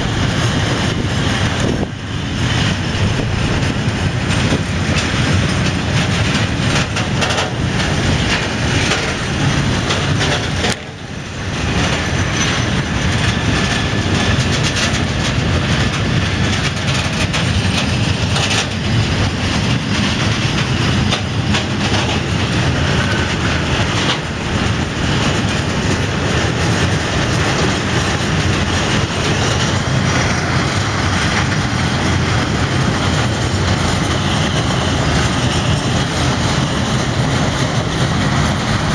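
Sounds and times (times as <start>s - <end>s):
freight train rolling past: 0.0s - 38.9s
steel wheels clattering on rails: 0.0s - 38.9s.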